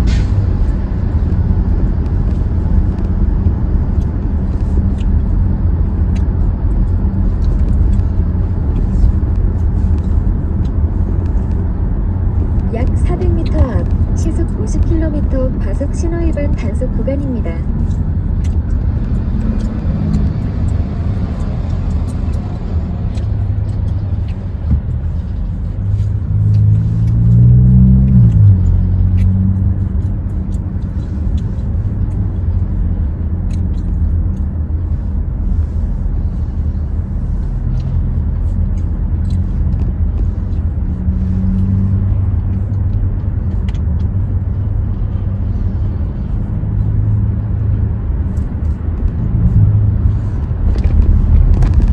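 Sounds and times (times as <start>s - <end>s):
car engine and road noise: 0.0s - 51.9s.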